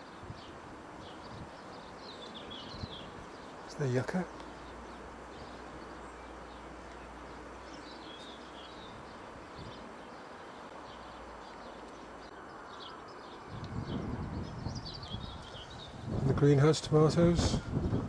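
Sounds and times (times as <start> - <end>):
birds chirping: 0.0 - 18.0
outdoor background hiss: 0.0 - 18.0.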